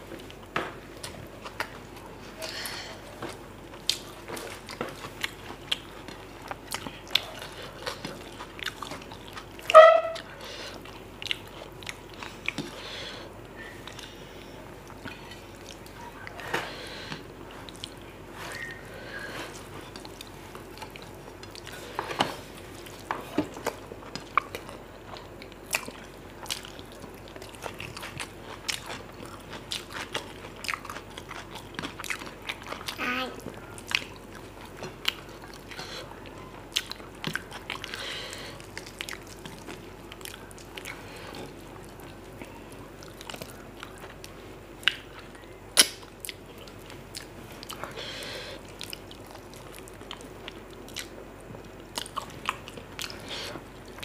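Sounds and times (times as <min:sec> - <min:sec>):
chewing with wet clicks: 0:00.1 - 0:12.8, 0:17.1 - 0:18.8, 0:19.5 - 0:22.0, 0:22.6 - 0:48.0, 0:48.6 - 0:54.0.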